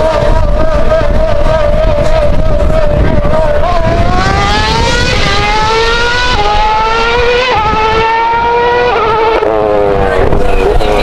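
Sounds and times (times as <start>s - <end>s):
racing car engine: 0.0s - 11.0s.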